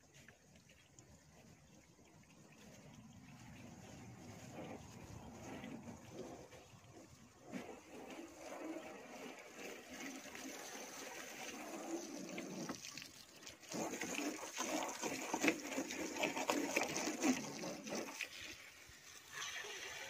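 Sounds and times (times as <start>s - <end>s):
water splashing: 0.0s - 20.0s
hose spraying water on car: 3.4s - 20.0s.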